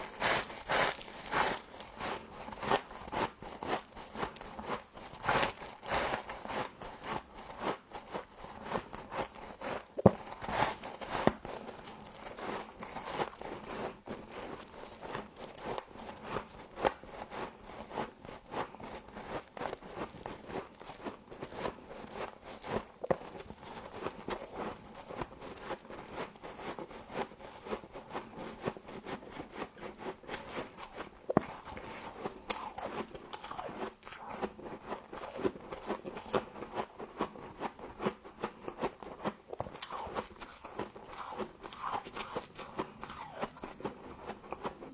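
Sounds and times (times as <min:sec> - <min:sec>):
person chewing frost crunching: 0:00.0 - 0:44.9.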